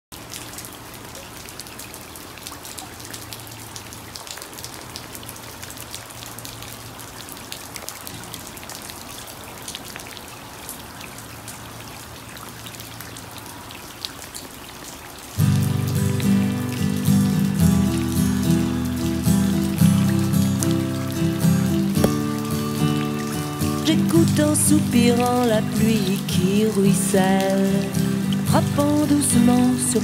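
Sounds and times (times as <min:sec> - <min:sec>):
rain splashing into water: 0:00.1 - 0:30.0.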